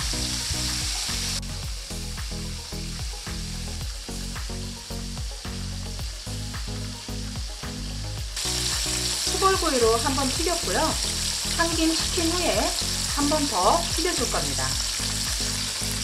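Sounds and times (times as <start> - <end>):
chicken frying in oil: 0.0 - 7.0, 8.2 - 16.0
background music with steady beat: 0.0 - 16.0.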